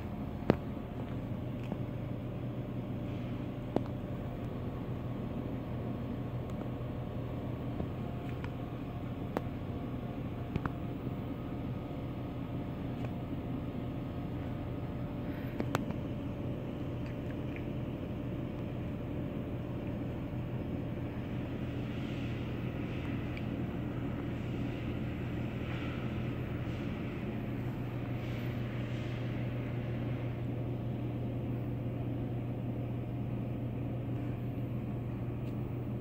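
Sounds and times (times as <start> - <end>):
vending machine refrigeration hum: 0.0 - 36.0.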